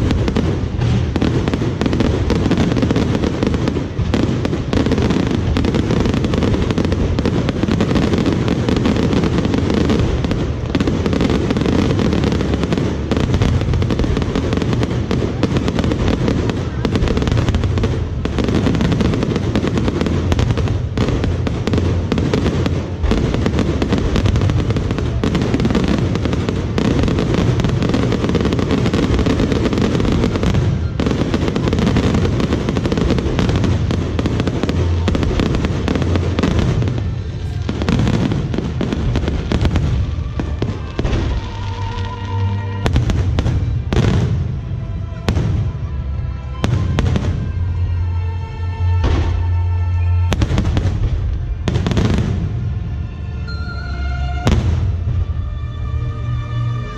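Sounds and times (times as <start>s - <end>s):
fireworks bangs and crackling: 0.0s - 56.9s
music with held tones: 1.2s - 56.9s.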